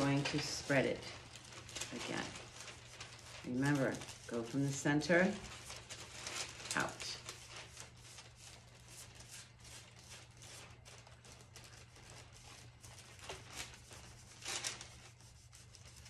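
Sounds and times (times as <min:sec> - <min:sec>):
plastic bag rustling and crinkling: 0:00.0 - 0:16.0.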